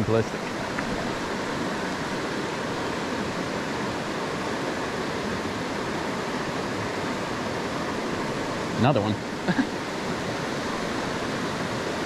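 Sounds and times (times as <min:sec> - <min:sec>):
rocky stream rushing: 0:00.0 - 0:12.0.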